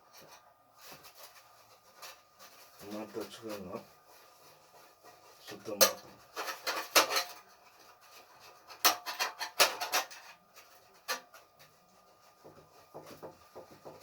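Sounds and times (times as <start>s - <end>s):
rubbing and scraping on stove: 0.0s - 14.0s.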